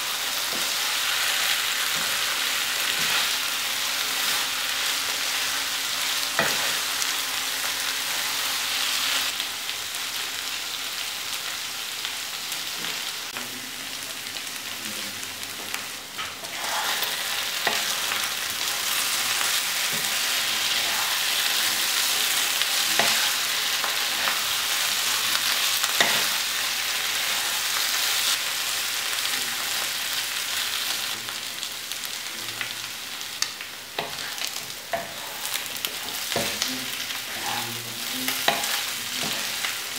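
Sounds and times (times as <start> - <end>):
meat sizzling in oil: 0.0 - 39.9.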